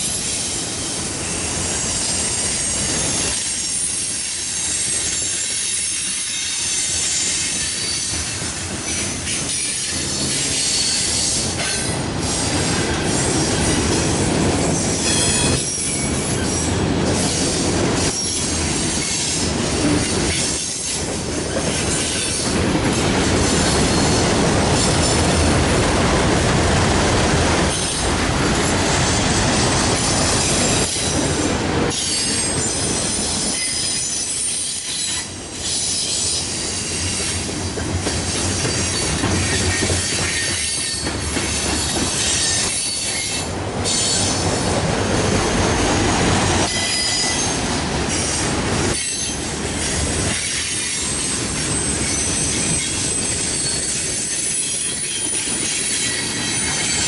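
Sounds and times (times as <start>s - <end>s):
freight train rumbling past: 0.0s - 57.0s
high wheel squeal: 0.1s - 21.0s, 23.4s - 25.2s, 31.9s - 37.4s, 38.3s - 57.0s.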